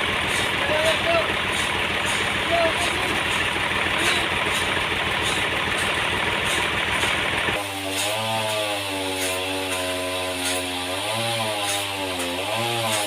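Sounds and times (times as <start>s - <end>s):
sawmill machinery roar: 0.0s - 13.0s.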